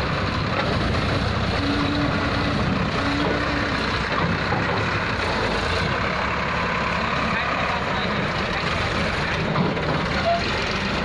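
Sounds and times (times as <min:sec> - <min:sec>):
diesel tractor engines running: 0:00.0 - 0:11.0.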